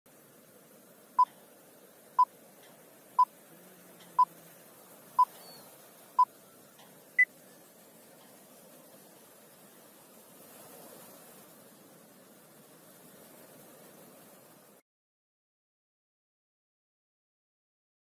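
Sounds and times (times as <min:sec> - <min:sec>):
faint hiss: 0:00.1 - 0:14.8.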